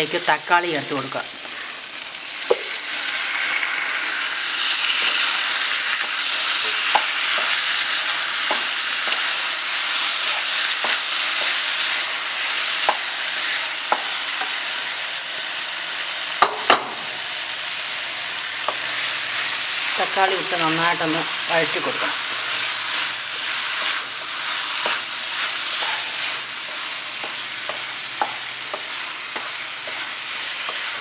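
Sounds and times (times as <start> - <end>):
vegetables sizzling in a pan: 0.0 - 31.0.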